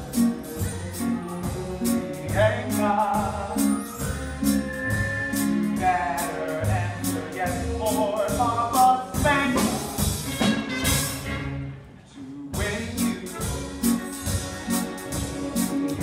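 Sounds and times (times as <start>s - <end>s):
orchestra playing show tune: 0.0s - 12.0s, 12.6s - 16.0s.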